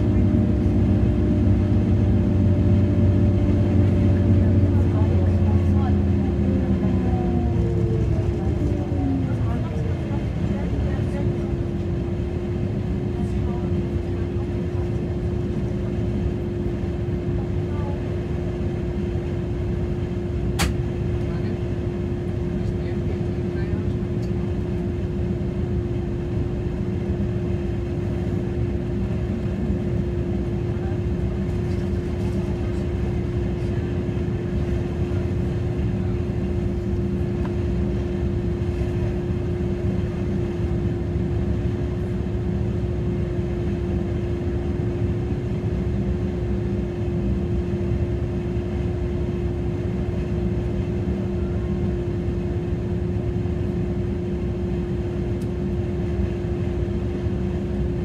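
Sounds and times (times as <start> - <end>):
train running rumble: 0.0 - 54.1
constant droning tone: 0.0 - 58.0.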